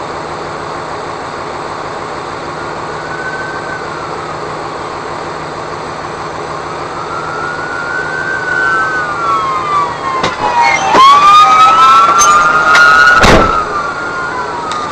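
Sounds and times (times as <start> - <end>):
emergency vehicle sirens wailing: 2.2 - 14.9.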